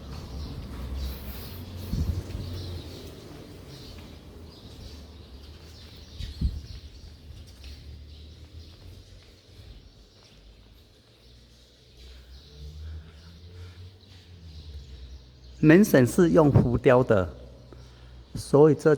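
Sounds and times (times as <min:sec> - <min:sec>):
sparrows chirping: 0:00.0 - 0:18.9.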